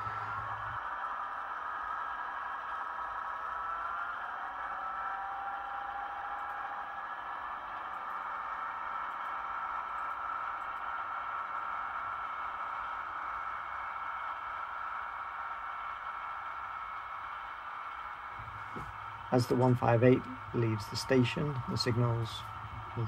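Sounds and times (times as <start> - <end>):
model train motor whine: 0.0 - 23.0.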